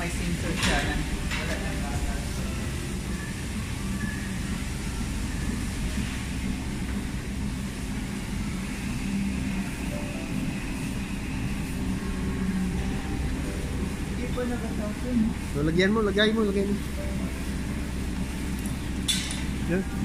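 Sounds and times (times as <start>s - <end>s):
milking machinery drone: 0.0s - 20.0s.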